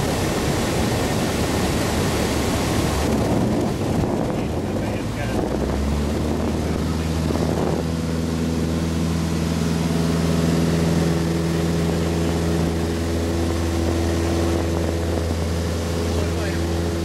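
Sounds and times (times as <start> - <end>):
airplane engine and propeller: 0.0 - 17.0.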